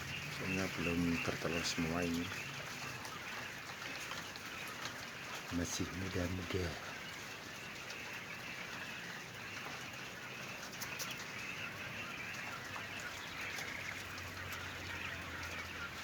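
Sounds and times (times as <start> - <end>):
quail rustling and calling: 0.0 - 16.0.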